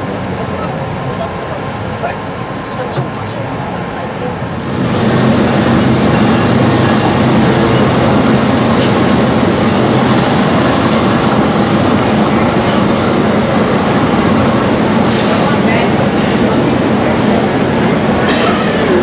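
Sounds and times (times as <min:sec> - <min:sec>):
train rolling on rails: 0:00.0 - 0:19.0.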